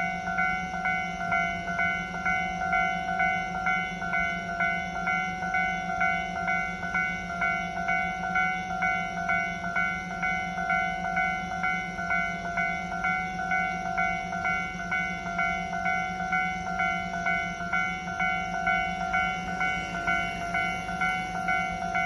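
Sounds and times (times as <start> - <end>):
level crossing bell ringing: 0.0 - 22.0.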